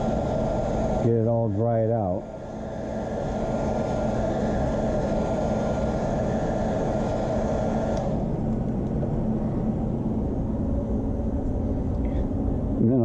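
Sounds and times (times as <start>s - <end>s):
steady rumbling background noise: 0.0s - 13.0s.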